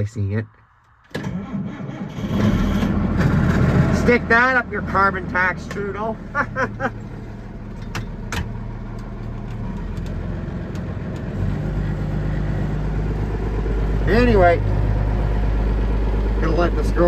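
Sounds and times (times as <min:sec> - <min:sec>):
cold engine idling: 0:01.4 - 0:17.0.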